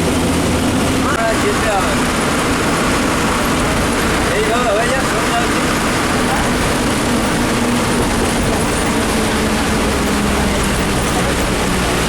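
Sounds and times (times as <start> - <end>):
bus engine running: 0.0 - 12.0
rain hiss and road noise: 0.0 - 12.0.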